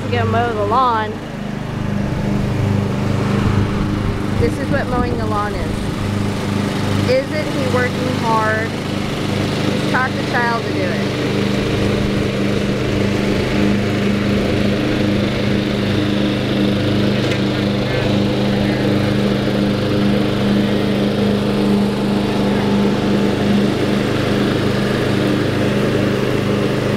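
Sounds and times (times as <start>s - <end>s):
riding lawn mower engine droning: 0.0s - 26.9s.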